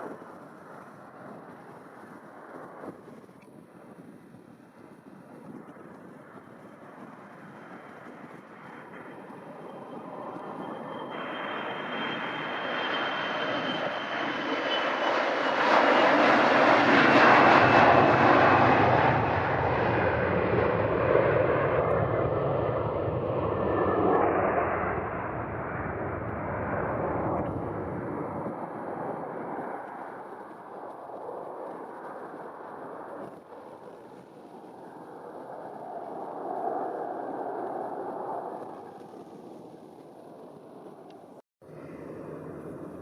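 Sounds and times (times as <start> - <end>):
airliner engines passing: 0.0 - 43.0.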